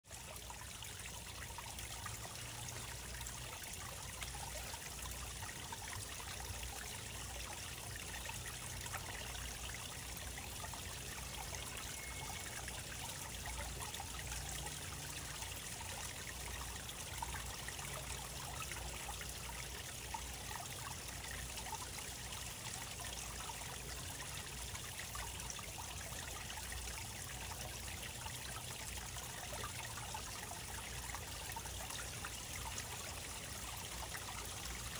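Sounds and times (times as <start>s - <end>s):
water trickling: 0.0s - 34.9s.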